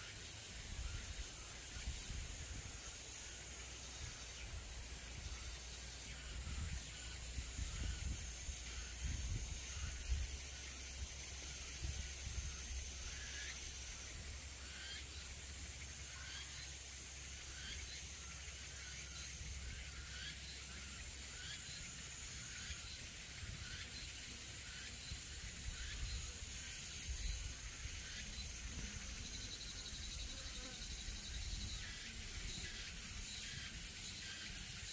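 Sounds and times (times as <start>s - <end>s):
insects hissing: 0.0s - 34.9s.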